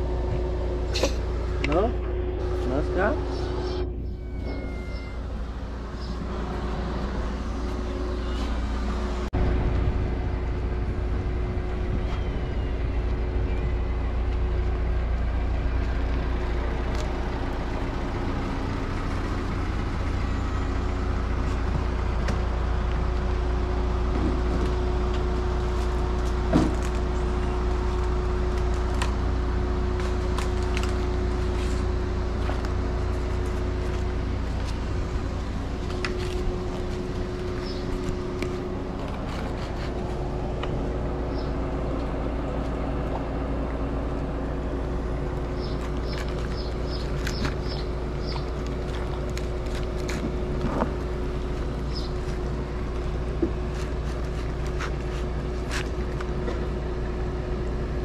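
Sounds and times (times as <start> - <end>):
constant hum: 0.0 - 58.0
steady low rumble: 0.0 - 58.0.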